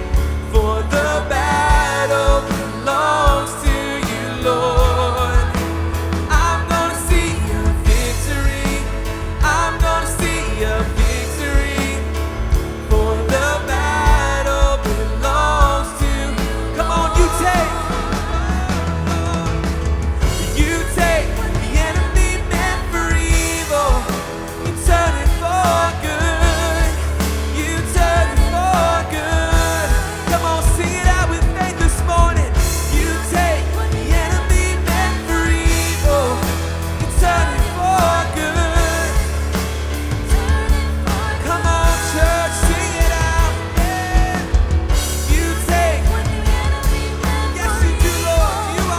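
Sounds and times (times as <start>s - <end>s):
bass: 0.0s - 48.9s
drums: 0.0s - 48.9s
piano: 0.0s - 48.9s
synth: 0.0s - 48.9s
voices singing: 0.0s - 48.9s.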